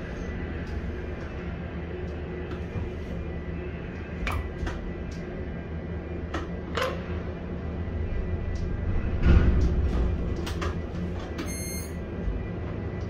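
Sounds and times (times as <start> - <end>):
crane machinery hum: 0.0 - 13.0.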